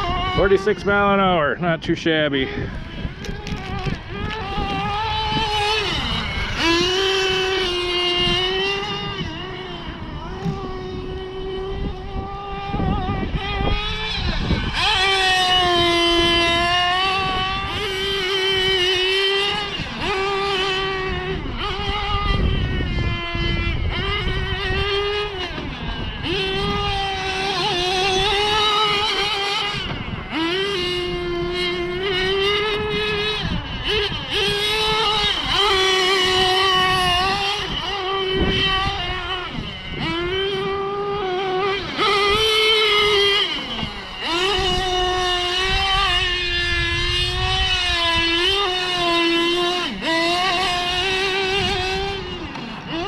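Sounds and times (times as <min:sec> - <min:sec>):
rc car nitro engine buzzing: 0:00.0 - 0:53.0.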